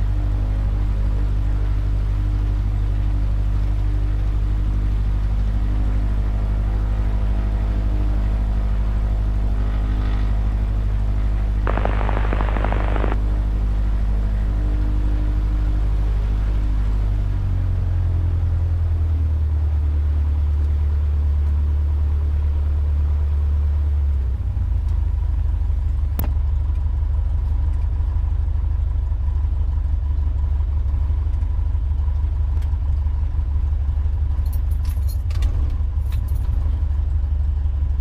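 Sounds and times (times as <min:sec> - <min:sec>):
aircraft engine idling: 0:00.0 - 0:34.8.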